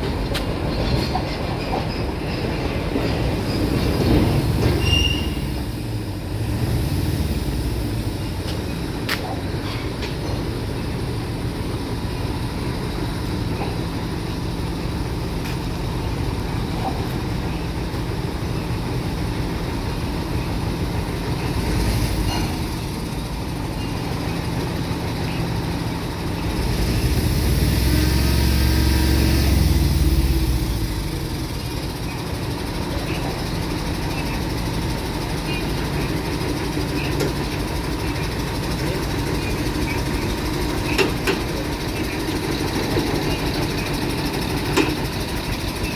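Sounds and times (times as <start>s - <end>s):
heavy vehicle engine rumbling: 0.0s - 45.9s.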